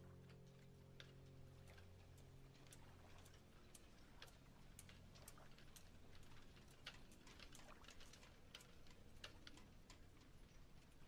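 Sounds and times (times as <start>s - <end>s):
faint low hum: 0.0s - 11.0s
faint clicks: 0.2s - 11.0s.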